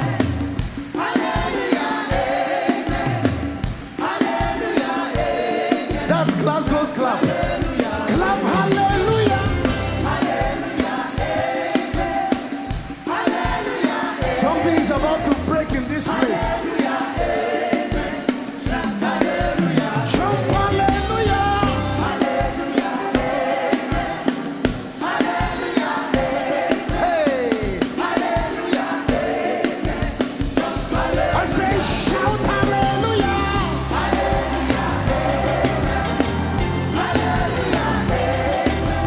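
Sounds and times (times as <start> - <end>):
band with steady drum beat: 0.0 - 39.0
voices singing together: 0.0 - 39.0.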